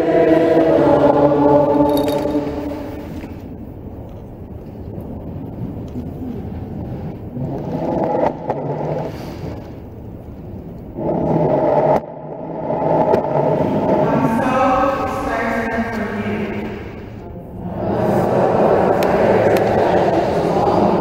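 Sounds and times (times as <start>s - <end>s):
people sitting down in wooden pews: 0.0s - 21.0s.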